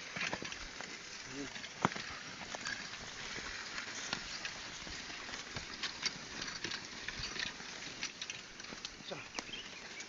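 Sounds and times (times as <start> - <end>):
plough clicks and crunches: 0.0 - 10.0.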